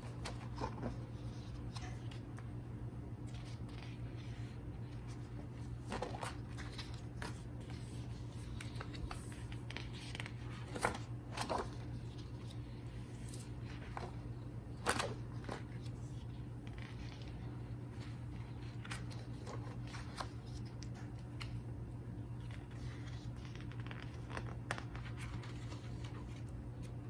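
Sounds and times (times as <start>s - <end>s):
pages rustling: 0.0s - 2.5s, 3.2s - 21.7s, 22.4s - 27.0s.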